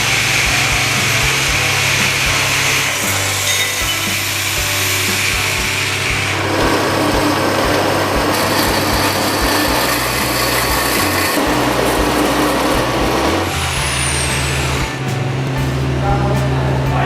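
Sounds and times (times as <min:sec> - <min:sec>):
power tool grinding steel: 0:00.0 - 0:15.1.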